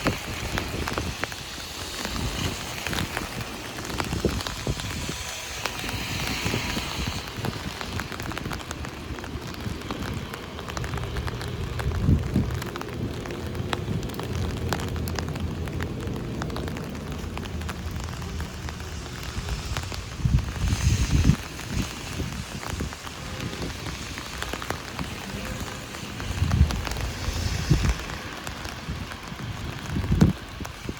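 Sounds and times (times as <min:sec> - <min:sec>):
heavy rain on an umbrella: 0:00.0 - 0:30.9.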